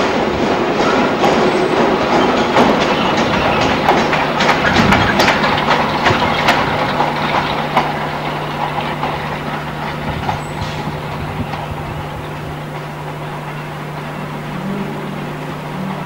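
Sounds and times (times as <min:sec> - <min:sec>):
train rumbling past: 0:00.0 - 0:16.0
wheels clicking over rail joints: 0:00.0 - 0:16.0
steady low hum: 0:01.8 - 0:16.0.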